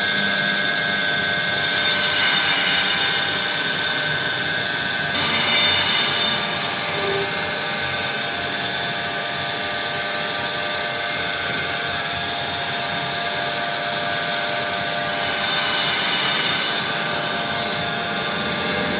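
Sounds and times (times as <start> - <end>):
lathe whining: 0.0 - 18.9.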